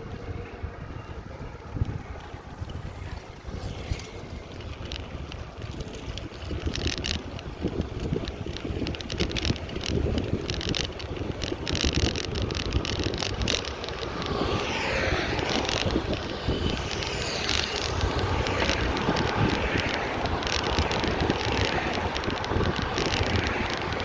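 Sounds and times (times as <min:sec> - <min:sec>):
bicycle rattles and clicks: 0:00.0 - 0:24.0
road rumble: 0:00.0 - 0:24.0
wind buffeting microphone: 0:00.0 - 0:24.0.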